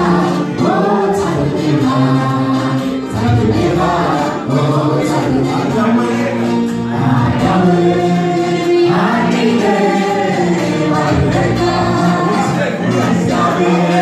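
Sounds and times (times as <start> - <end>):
group singing gospel song: 0.0 - 14.0.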